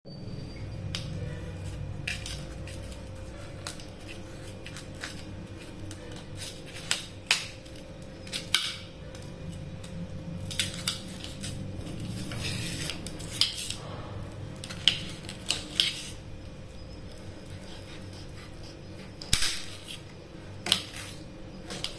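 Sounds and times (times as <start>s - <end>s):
faint steady hum: 0.1s - 21.9s.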